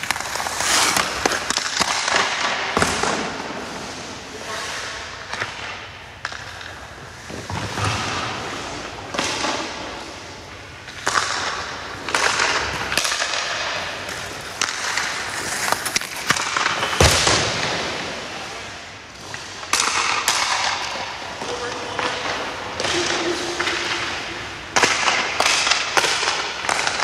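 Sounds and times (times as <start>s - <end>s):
skate blades scraping ice: 0.0s - 27.0s.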